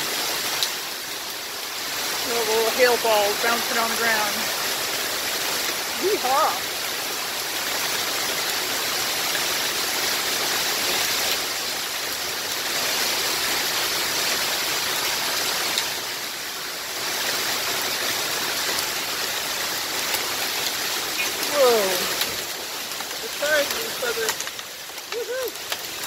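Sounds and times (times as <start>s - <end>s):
heavy rain and hail: 0.0s - 26.0s.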